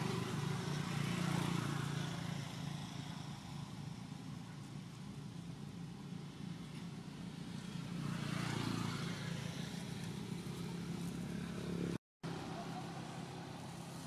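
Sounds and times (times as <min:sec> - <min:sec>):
traffic noise: 0:00.0 - 0:14.0
vehicle engine hum: 0:00.0 - 0:14.0.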